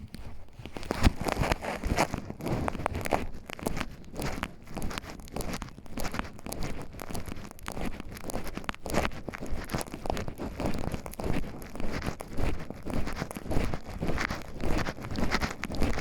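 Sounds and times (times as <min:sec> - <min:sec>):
footsteps on leaves and twigs: 0:00.0 - 0:16.0.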